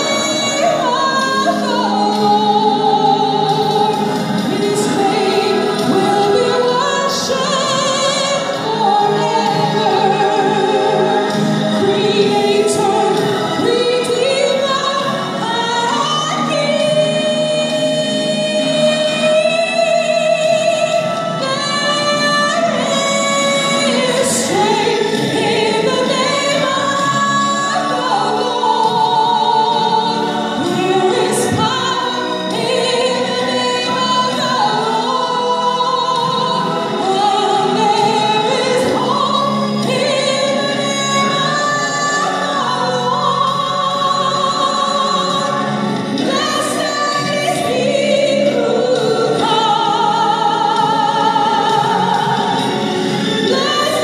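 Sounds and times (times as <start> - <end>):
musical backing: 0.0 - 54.0
woman singing with vibrato: 0.0 - 54.0.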